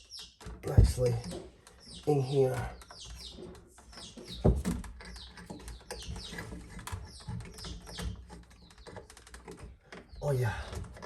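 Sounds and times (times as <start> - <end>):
bird chirping: 0.0 - 10.8
electrical wires clicking and knocking: 0.0 - 11.0.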